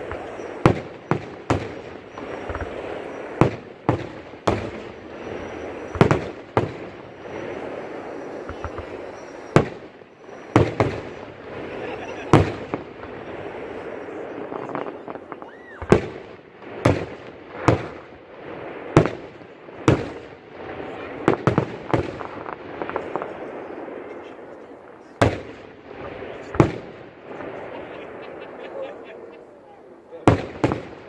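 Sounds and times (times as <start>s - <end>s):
fireworks bursting with bangs: 0.0s - 31.0s.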